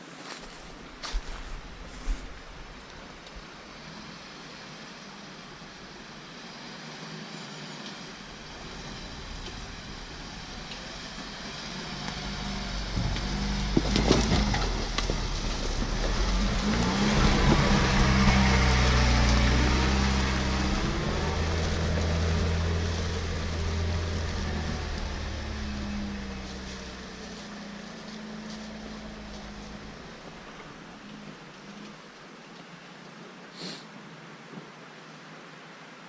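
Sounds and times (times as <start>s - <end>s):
off-road vehicle engine under load: 0.7s - 32.0s.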